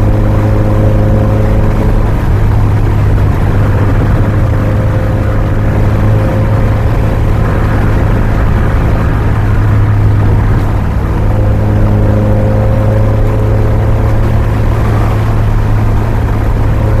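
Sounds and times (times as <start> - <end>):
car engine drone: 0.0 - 17.0
road and wind noise: 0.0 - 17.0.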